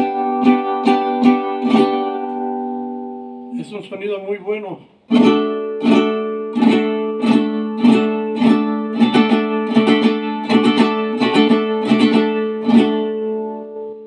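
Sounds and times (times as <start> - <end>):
guitar strumming a chord: 0.0 - 3.6, 5.1 - 14.0.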